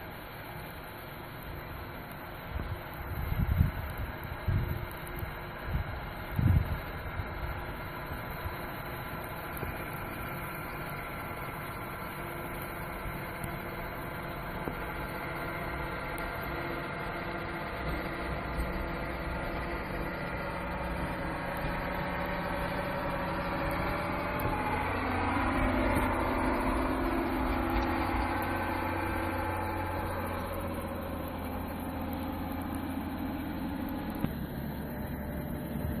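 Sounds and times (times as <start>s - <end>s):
diesel engine running: 0.0s - 36.0s
dozer blade plowing snow: 0.0s - 36.0s.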